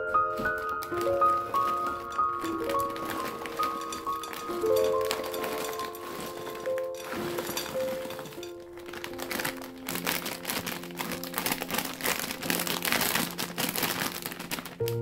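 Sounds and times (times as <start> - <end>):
foil bag rustling: 0.0 - 15.0
soft background music: 0.0 - 15.0
croutons rattling into glass bowl: 0.2 - 15.0.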